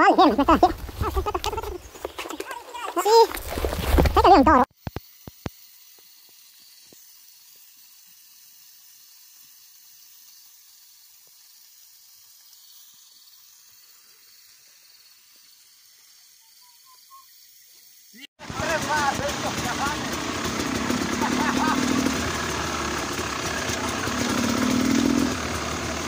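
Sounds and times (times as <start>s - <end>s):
high-pitched outdoor hiss: 0.0s - 26.0s.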